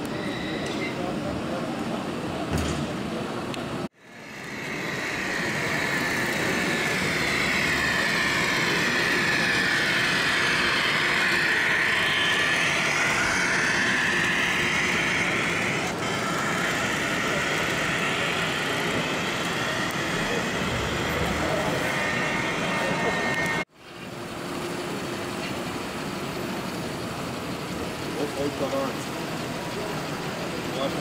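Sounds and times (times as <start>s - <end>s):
model train whirring: 3.9s - 31.0s.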